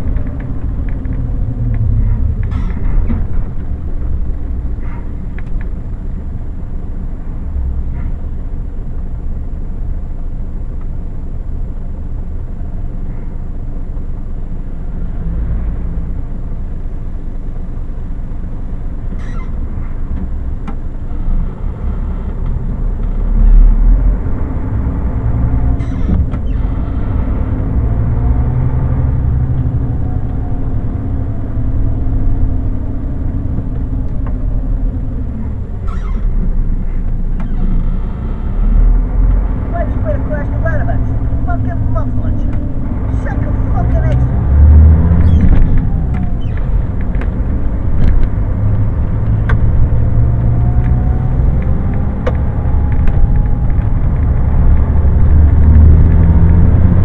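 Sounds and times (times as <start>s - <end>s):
road noise: 0.0s - 57.0s
truck diesel engine driving: 0.0s - 57.0s.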